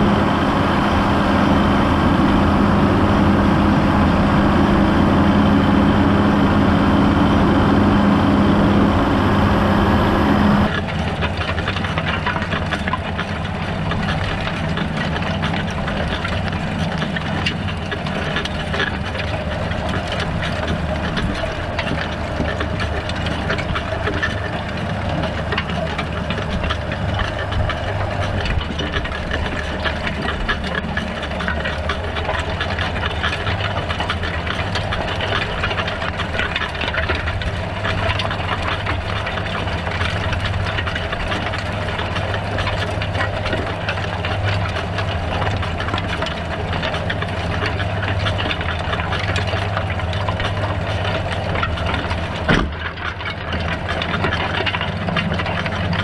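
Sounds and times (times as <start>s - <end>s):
tractor diesel engine under load: 0.0s - 56.0s
cultivator tines rattling through soil: 10.6s - 56.0s.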